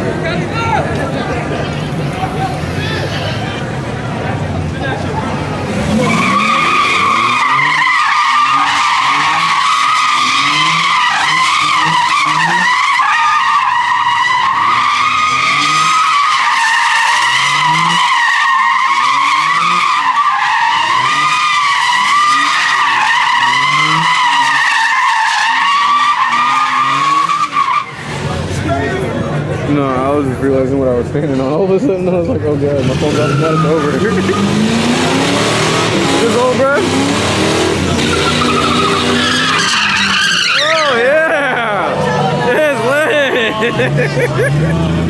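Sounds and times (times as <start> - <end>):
car engine revving: 0.0 - 30.7, 32.5 - 45.0
tyres squealing: 0.6 - 28.8, 32.8 - 45.0.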